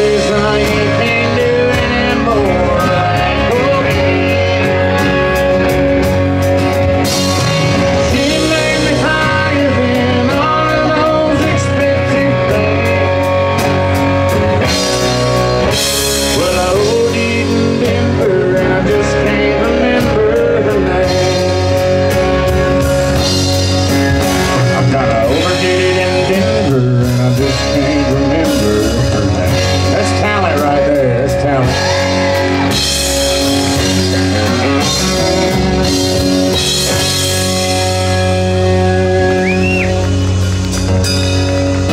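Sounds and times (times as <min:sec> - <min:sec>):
pitch-bending melody line: 0:00.0 - 0:41.9
rock band playing live: 0:00.0 - 0:41.9.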